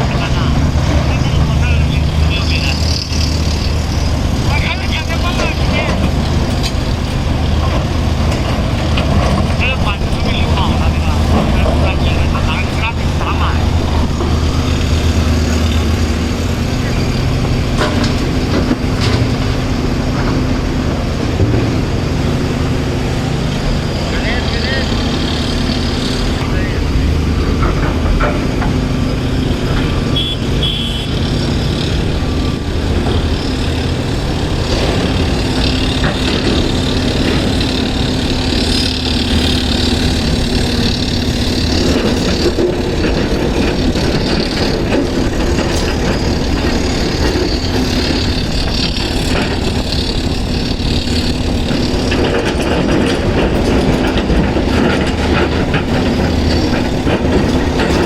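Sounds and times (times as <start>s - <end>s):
diesel engine running: 0.0s - 58.0s
knocks and clatter: 0.0s - 58.0s.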